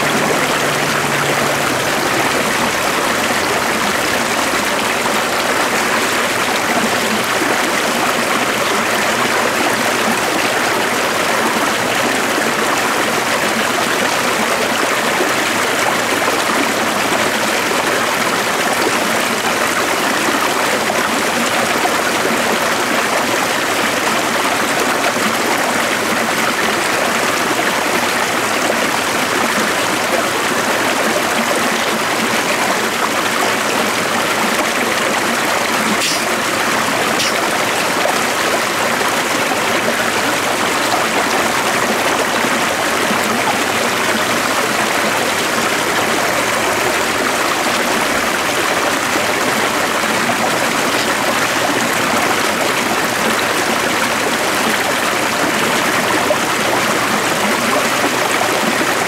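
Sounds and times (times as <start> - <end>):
running water stream: 0.0 - 59.0.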